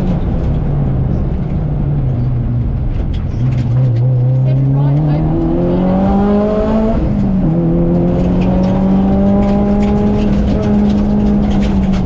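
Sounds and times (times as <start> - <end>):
car engine revving in cabin: 0.0 - 12.0.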